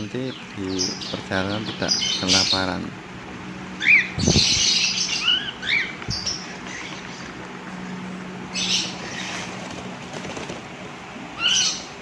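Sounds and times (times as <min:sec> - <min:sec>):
rasping begging calls: 0:00.0 - 0:10.2, 0:11.2 - 0:12.0
young birds chirping: 0:00.0 - 0:10.6, 0:11.2 - 0:12.0
steady low hum: 0:00.0 - 0:12.0.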